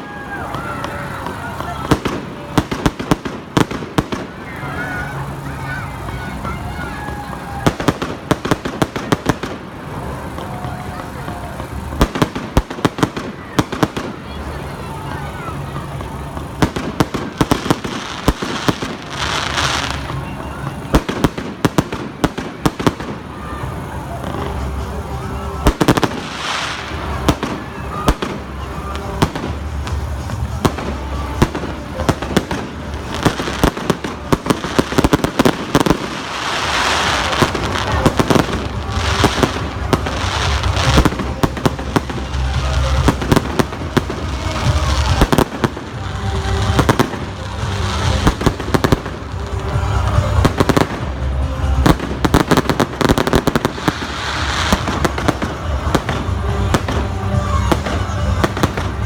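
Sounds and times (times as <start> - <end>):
fireworks bursting with bangs: 0.0 - 59.0
fireworks crackling: 0.0 - 59.0.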